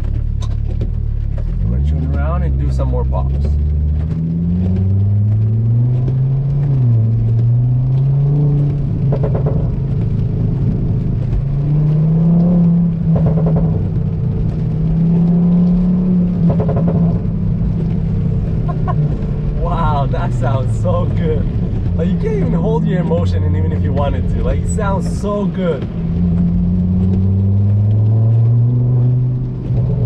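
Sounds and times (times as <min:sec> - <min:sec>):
car engine revving: 0:00.0 - 0:30.0
exhaust crackles and pops: 0:00.0 - 0:30.0.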